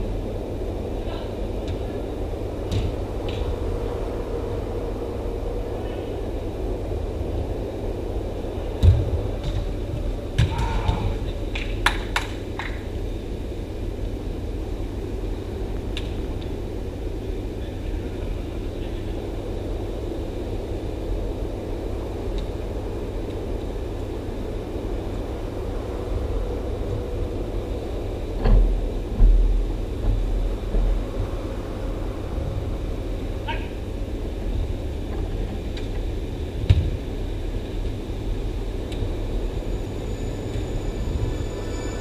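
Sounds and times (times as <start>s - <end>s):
indoor hall rumble: 0.0s - 42.0s.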